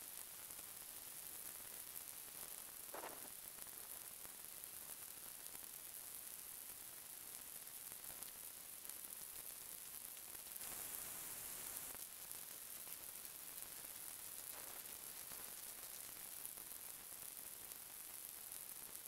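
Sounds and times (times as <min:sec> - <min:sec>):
faint high-pitched hiss: 0:00.0 - 0:19.0.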